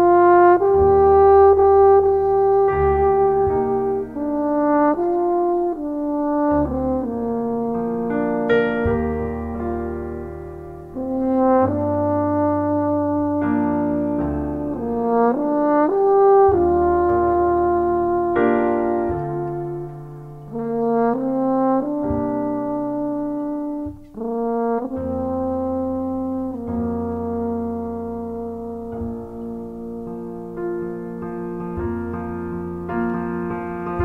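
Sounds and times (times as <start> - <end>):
bass: 0.0 - 34.0
french horn slow melody: 0.0 - 34.0
piano: 0.0 - 34.0.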